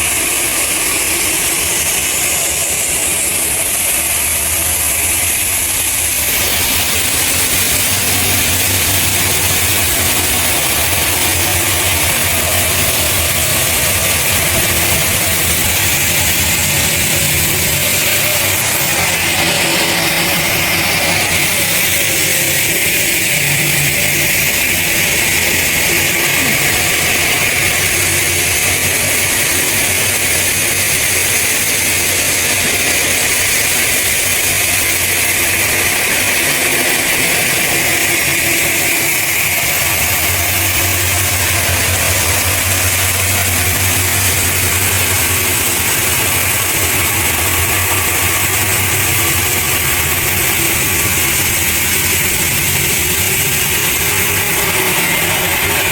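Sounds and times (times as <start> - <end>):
heavy machinery running: 0.0 - 55.9.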